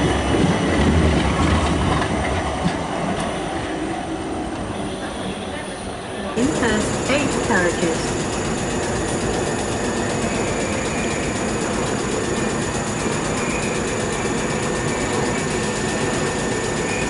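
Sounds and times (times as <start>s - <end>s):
train equipment hum and hiss: 0.0s - 17.0s.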